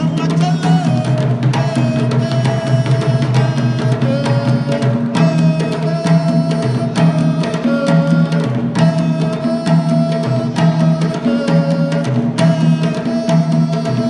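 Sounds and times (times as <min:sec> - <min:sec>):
hand drums: 0:00.0 - 0:14.0.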